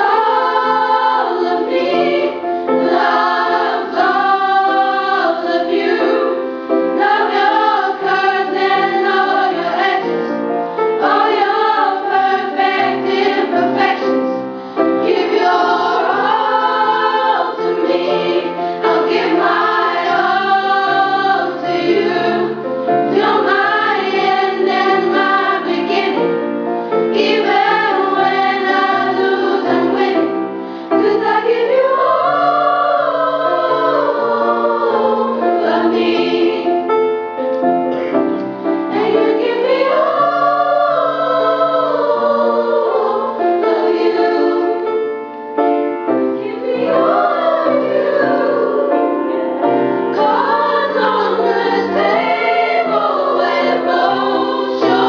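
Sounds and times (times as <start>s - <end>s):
girls choir singing: 0.0s - 36.9s, 38.4s - 45.1s, 46.0s - 55.0s.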